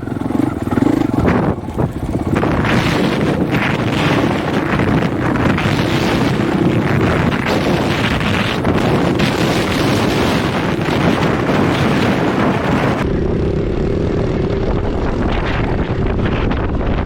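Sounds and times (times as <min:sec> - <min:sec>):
dirt bike engine running: 0:00.0 - 0:17.0
wind buffeting microphone: 0:00.0 - 0:17.0.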